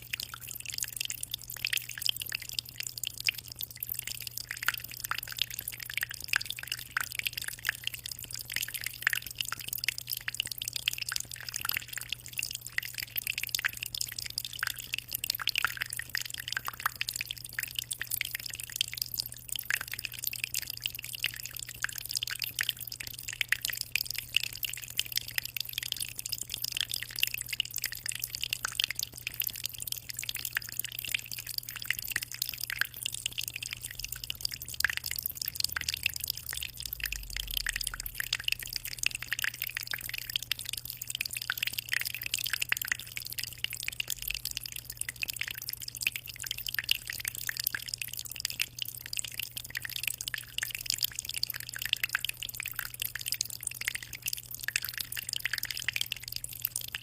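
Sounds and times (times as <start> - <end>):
water dripping and splashing: 0.0 - 57.0.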